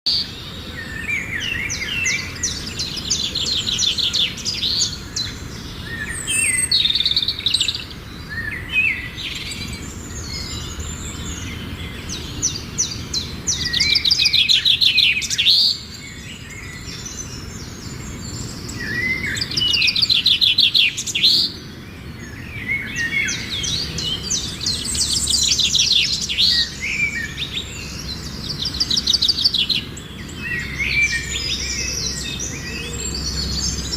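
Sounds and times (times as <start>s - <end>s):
songbird trills and whistles: 0.1s - 21.6s, 22.2s - 33.9s.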